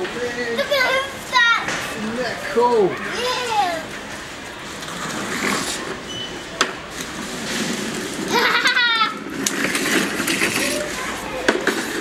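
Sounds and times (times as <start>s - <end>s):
background hubbub: 0.0s - 12.0s.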